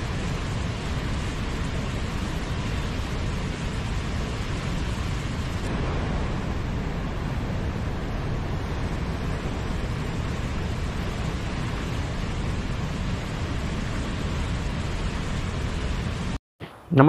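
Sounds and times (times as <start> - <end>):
waterfall rushing onto rocks: 0.0 - 16.4.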